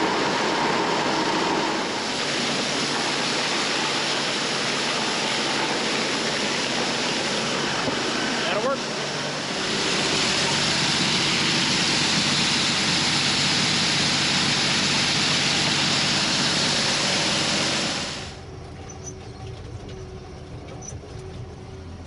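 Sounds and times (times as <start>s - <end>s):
loud rushing hiss: 0.0s - 18.4s
vehicle engine running: 0.0s - 22.0s.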